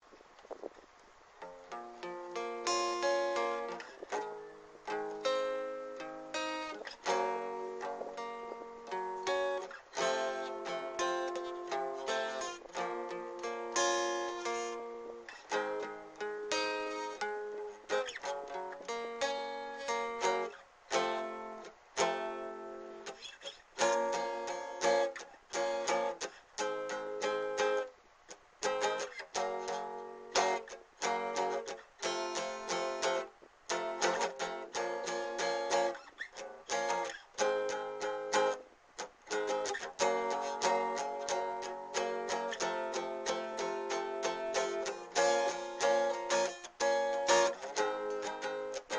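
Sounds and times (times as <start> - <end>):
guitar playing instrumental: 0.5 - 48.9.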